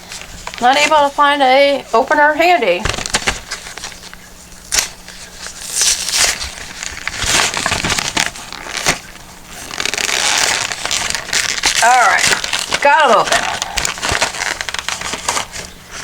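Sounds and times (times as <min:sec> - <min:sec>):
plastic packaging crinkling: 0:00.0 - 0:16.0
sharp plastic cracks: 0:02.8 - 0:15.7.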